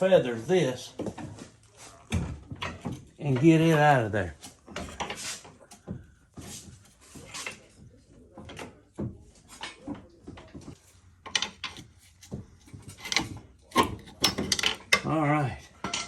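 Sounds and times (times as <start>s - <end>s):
metal parts clunking and scraping: 1.0s - 7.8s, 8.4s - 16.0s.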